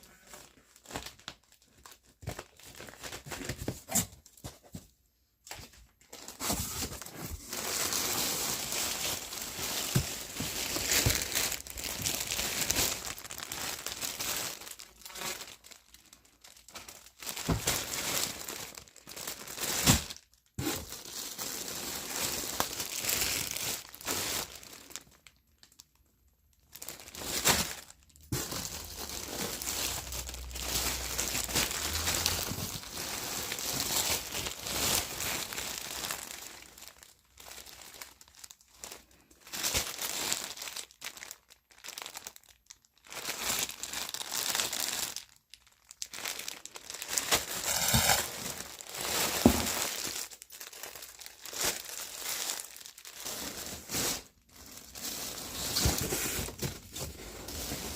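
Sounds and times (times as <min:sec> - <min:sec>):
packaging crinkling and rustling: 0:00.0 - 0:57.9.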